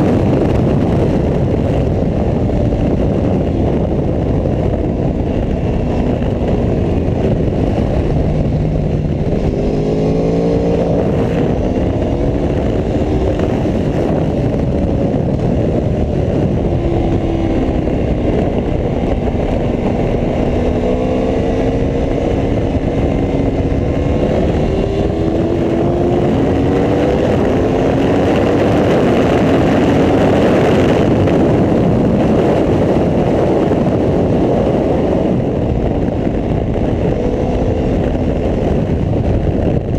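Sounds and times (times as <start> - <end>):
motorcycle engine accelerating: 0.0 - 39.9
steady rushing noise: 0.0 - 39.9.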